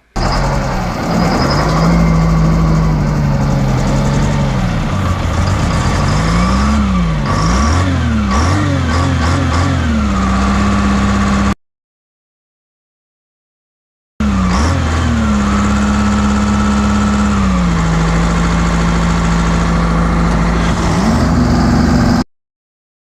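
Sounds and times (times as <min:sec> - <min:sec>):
excavator engine revving: 0:00.0 - 0:11.6, 0:14.2 - 0:22.3.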